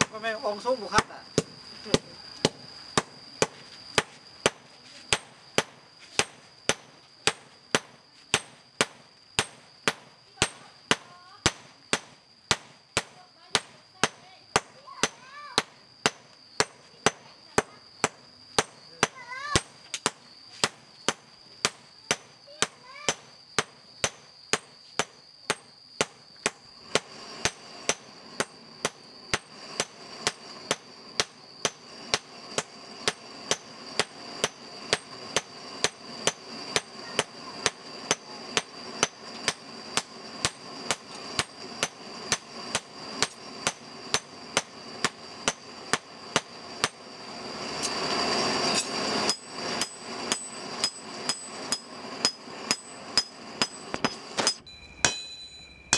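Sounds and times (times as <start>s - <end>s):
hammer striking steel on anvil: 2.4s - 47.0s, 48.7s - 55.9s.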